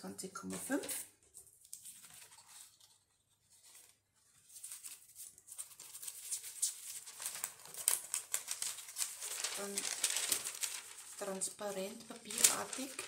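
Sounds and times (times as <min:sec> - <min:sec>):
paper rustling and crinkling: 0:00.5 - 0:13.0.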